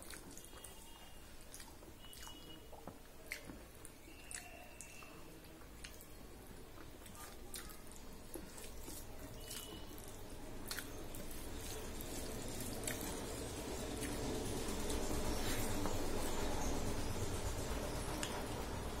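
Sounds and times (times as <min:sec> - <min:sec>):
fingers squishing wet food: 0:00.0 - 0:16.4
chewing: 0:00.0 - 0:16.7.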